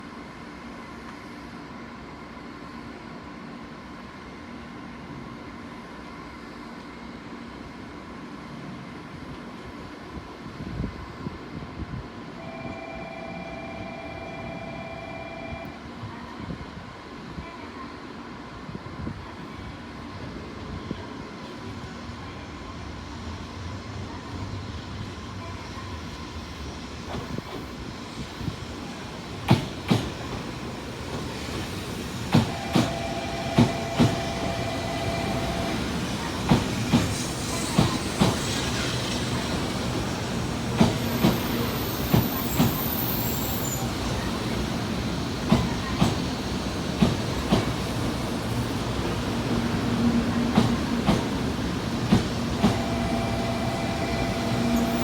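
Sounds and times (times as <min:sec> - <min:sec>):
train running with steady hum: 0:00.0 - 0:55.0.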